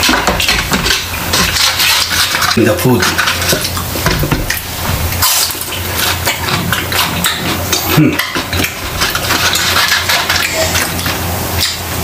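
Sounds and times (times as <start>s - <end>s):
wet squishing of food in sauce: 0.0s - 12.0s.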